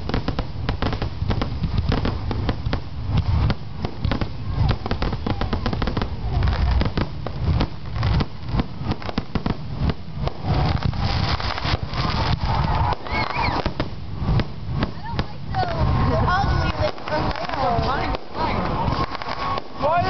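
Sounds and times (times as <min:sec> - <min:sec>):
fireworks cracking and booming: 0:00.0 - 0:20.0.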